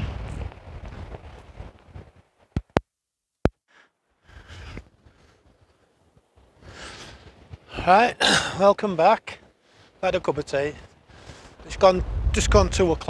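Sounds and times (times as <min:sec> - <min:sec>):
wind: 0:00.0 - 0:02.8, 0:03.7 - 0:13.0.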